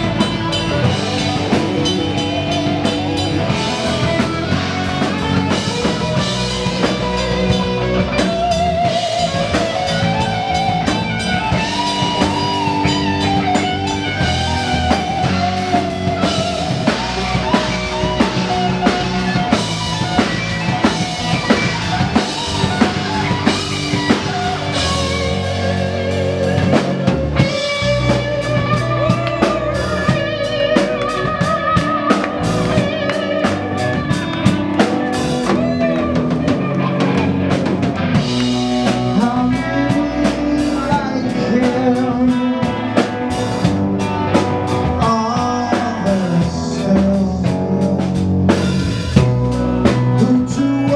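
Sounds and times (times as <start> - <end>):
busy drum kit: 0.0 - 50.9
distorted electric guitar lead: 0.0 - 50.9
heavy metal band playing: 0.0 - 50.9.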